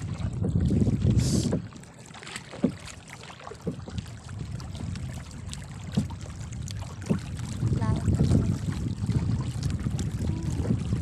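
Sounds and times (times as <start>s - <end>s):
wind buffeting microphone: 0.0s - 1.8s, 2.5s - 11.0s
lapping water: 0.0s - 11.0s
paddle strokes knocking and splashing: 0.0s - 11.0s.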